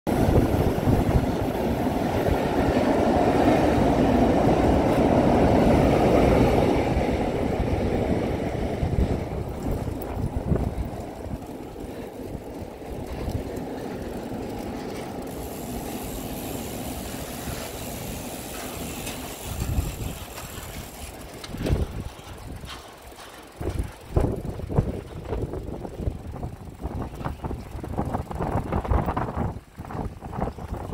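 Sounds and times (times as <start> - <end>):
wind buffeting microphone: 0.1 - 30.9.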